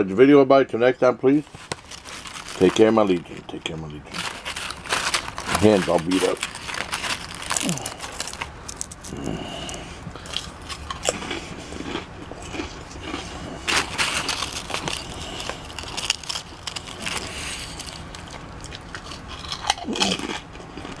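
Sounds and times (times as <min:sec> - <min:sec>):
potato chips crunching: 0:01.4 - 0:21.0.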